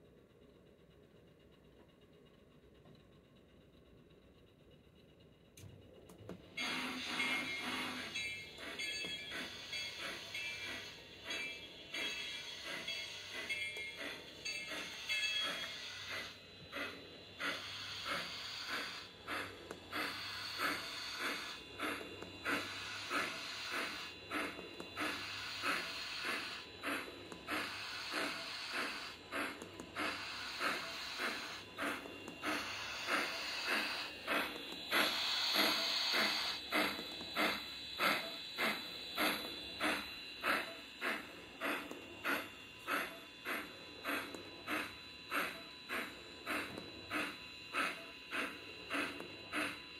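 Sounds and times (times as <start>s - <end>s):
steam locomotive chuffs: 0.0s - 49.9s
steam hiss: 6.6s - 49.8s.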